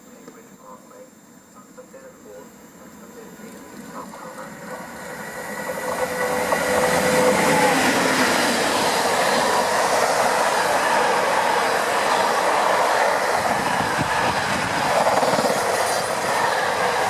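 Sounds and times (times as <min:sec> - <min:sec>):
freight train passing at speed: 0:01.0 - 0:17.0.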